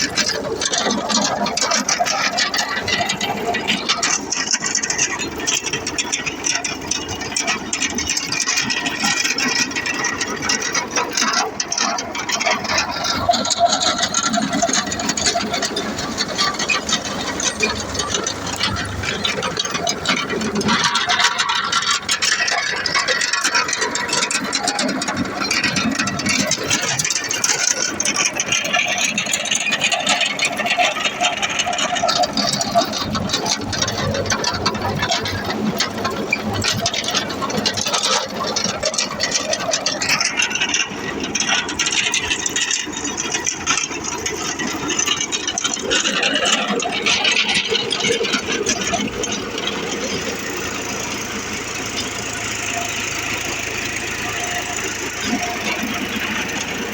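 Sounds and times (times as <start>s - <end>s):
rattle and clatter: 0.0s - 56.9s
tractor engine running: 0.0s - 56.9s.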